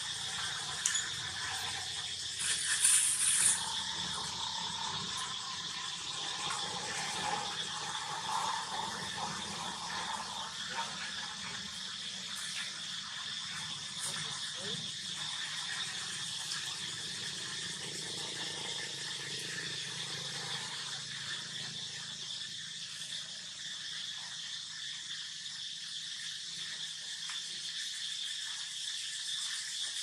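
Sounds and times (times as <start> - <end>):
insects calling: 0.0 - 30.0.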